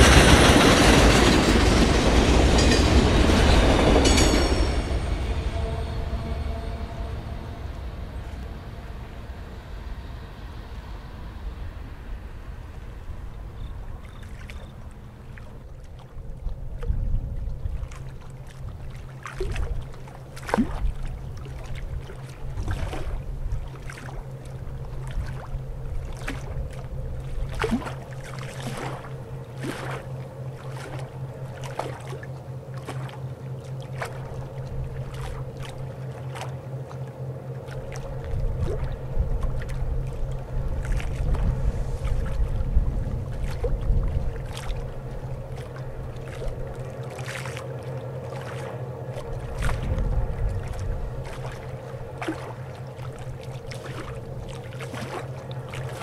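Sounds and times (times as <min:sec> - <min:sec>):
wind rumbling on microphone: 0:00.0 - 0:32.0, 0:37.7 - 0:47.2, 0:48.6 - 0:56.0
diesel engine droning: 0:00.0 - 0:56.0.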